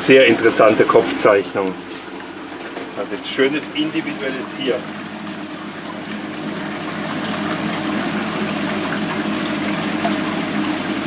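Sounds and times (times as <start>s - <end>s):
water sloshing in a tub: 0.0s - 11.0s.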